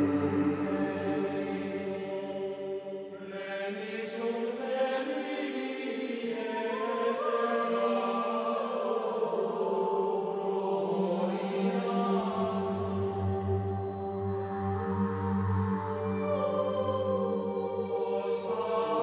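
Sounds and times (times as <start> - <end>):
voices chanting held notes: 0.0 - 19.0.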